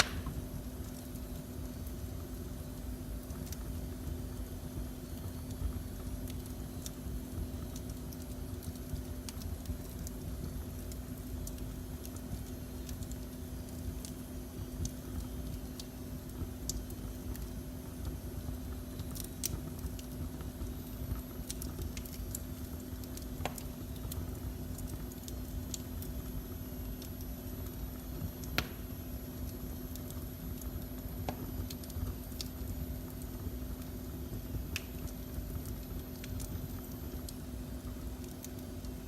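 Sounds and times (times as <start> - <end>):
faint hum: 0.0 - 39.0
fire crackling in fireplace: 0.0 - 39.0
sharp snaps and pops: 0.0 - 39.0.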